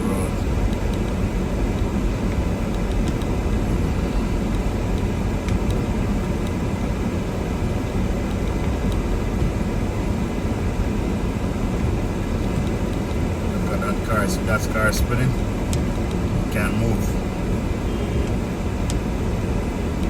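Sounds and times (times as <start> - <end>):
car driving through snow: 0.0 - 20.0.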